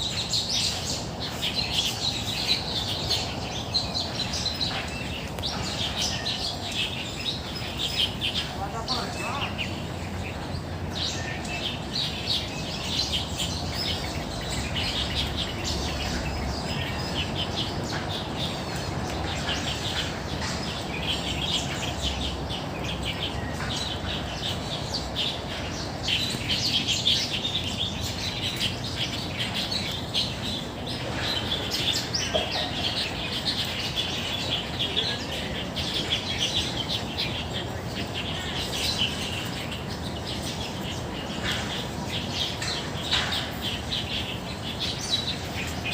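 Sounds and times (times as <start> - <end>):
birds chirping and singing: 0.0 - 45.9.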